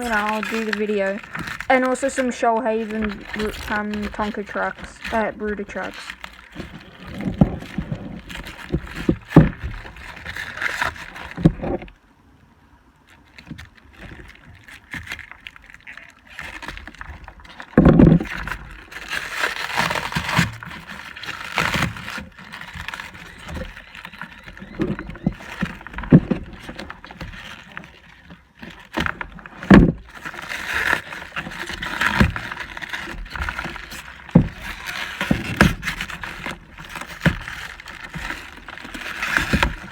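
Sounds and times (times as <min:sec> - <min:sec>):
plastic objects clattering: 0:00.0 - 0:12.0, 0:13.0 - 0:39.9
rustling wrap and cardboard: 0:00.0 - 0:39.9.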